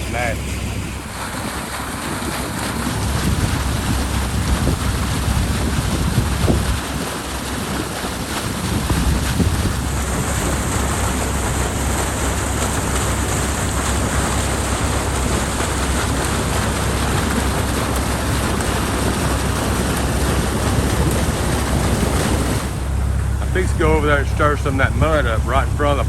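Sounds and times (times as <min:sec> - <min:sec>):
low rumble: 0:00.0 - 0:26.0
water rushing through a culvert: 0:00.0 - 0:26.0.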